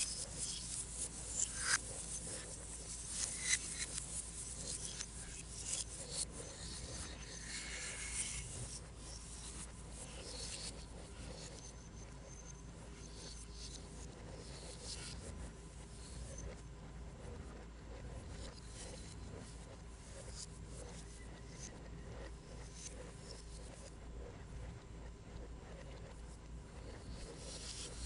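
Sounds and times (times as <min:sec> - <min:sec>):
stylus scratching on tablet screen: 0:00.0 - 0:28.0.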